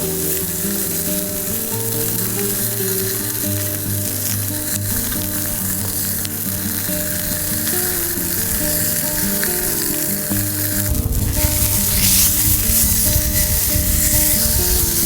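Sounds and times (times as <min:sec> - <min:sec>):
background music of held notes: 0:00.0 - 0:15.0
food sizzling in a pan: 0:00.0 - 0:15.0.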